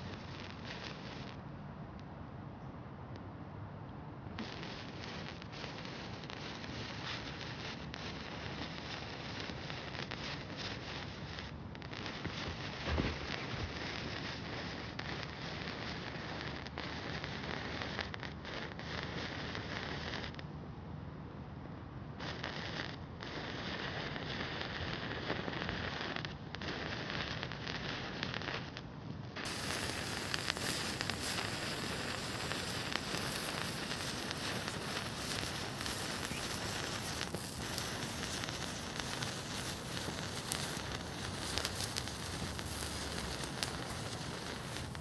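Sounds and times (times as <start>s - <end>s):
matches flaring with fizzing hiss: 0.0s - 1.4s, 4.4s - 20.3s, 22.2s - 28.8s, 29.4s - 45.0s
small sharp crackles: 0.0s - 2.1s, 4.4s - 20.5s, 22.2s - 45.0s.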